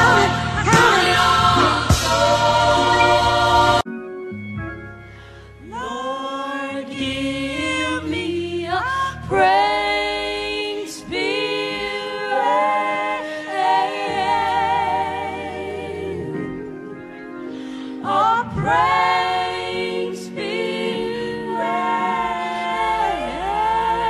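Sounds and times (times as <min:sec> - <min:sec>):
vocal group singing in harmony: 0:00.0 - 0:03.9, 0:05.6 - 0:24.0.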